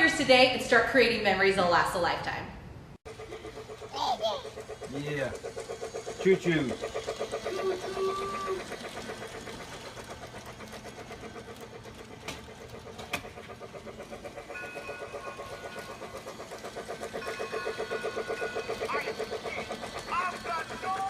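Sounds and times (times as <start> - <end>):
toy train chugging: 3.1 - 21.0.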